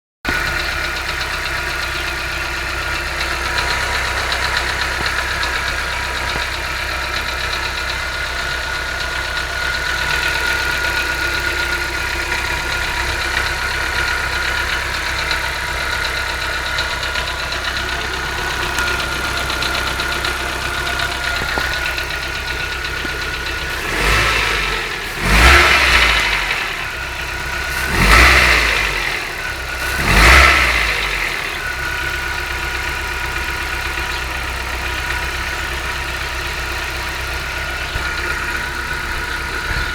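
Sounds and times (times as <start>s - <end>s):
car engine idling with abnormal noise: 0.3s - 39.9s.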